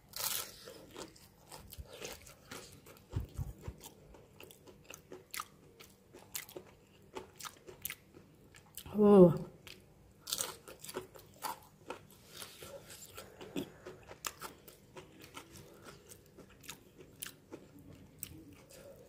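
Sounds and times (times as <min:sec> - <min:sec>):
person chewing crunchy fried food: 0:00.0 - 0:08.9, 0:09.6 - 0:19.0.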